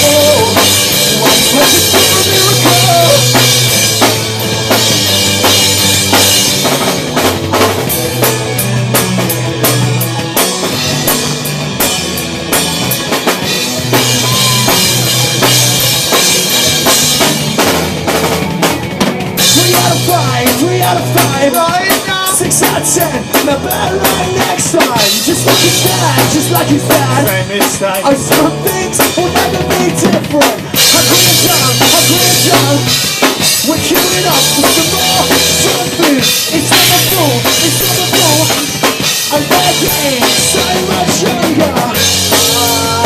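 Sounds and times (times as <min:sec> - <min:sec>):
drum kit: 0:00.0 - 0:43.0
low bass notes: 0:00.0 - 0:43.0
rock band playing: 0:00.0 - 0:43.0.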